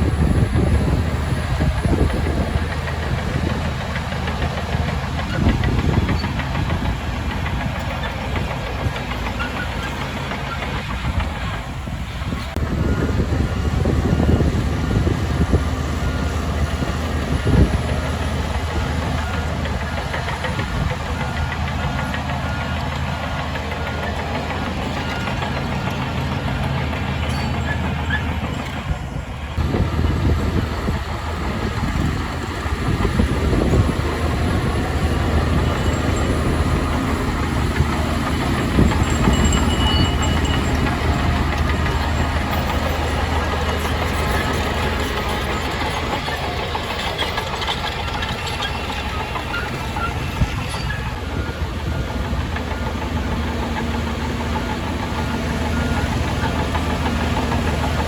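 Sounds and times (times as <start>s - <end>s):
heavy machinery diesel engine running: 0.0s - 58.0s.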